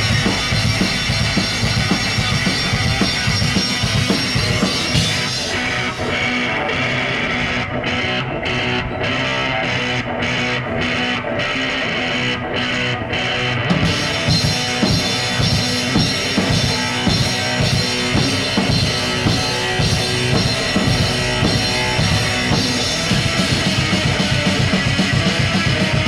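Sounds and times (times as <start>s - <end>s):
bass guitar: 0.0s - 26.0s
distorted electric guitar: 0.0s - 26.0s
drums: 0.0s - 26.0s.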